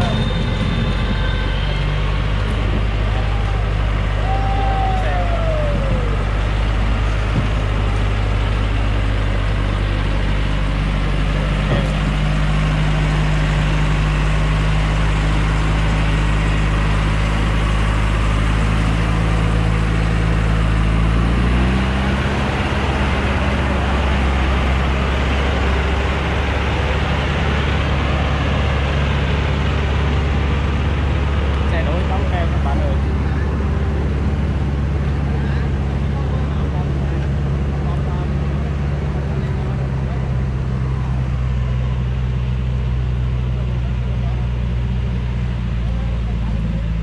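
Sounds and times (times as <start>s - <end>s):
diesel truck engine labouring: 0.0s - 47.0s.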